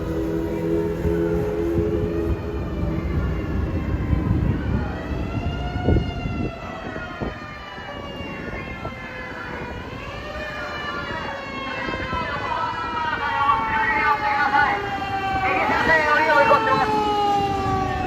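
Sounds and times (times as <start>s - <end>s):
mechanical siren wailing: 0.0s - 18.0s.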